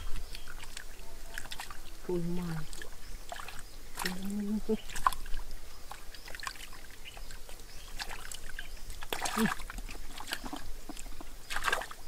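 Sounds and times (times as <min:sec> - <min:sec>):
hands squelching through mud: 0:00.0 - 0:12.0.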